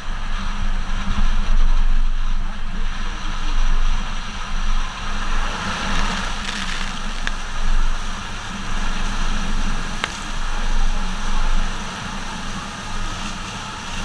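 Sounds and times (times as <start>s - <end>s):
pickup engine and tyre noise: 0.0s - 14.0s
wind rumble on microphone: 0.0s - 14.0s.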